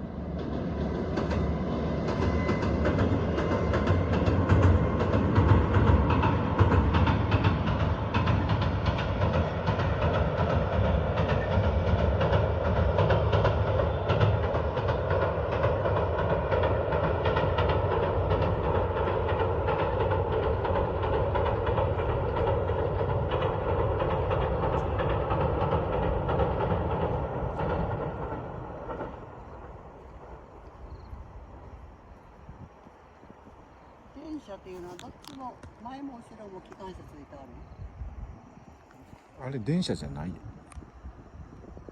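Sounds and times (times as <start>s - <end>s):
train wheels clattering over rail joints: 0.0s - 41.9s.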